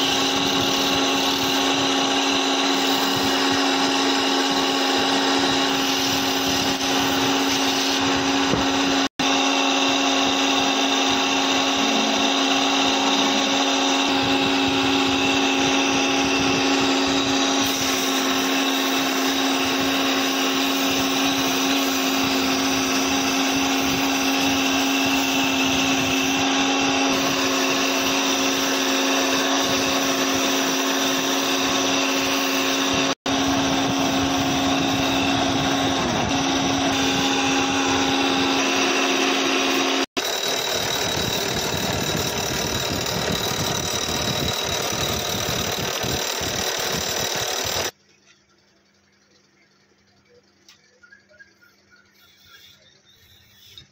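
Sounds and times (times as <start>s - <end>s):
chisel cutting spinning wood: 0.0s - 48.0s
wood lathe whining: 0.0s - 48.0s.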